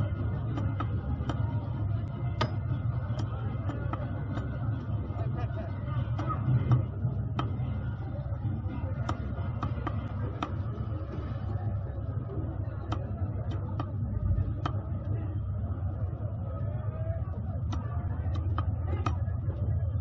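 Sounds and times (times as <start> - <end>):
faint background voices: 0.0 - 20.0
market rumble: 0.0 - 20.0.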